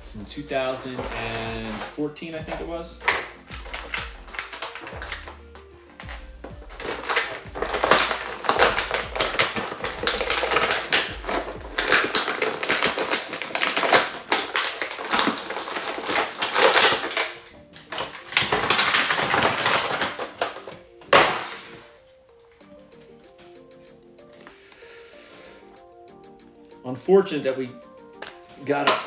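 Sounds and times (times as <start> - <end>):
plastic packaging crackling: 0.0 - 23.6, 27.5 - 29.0.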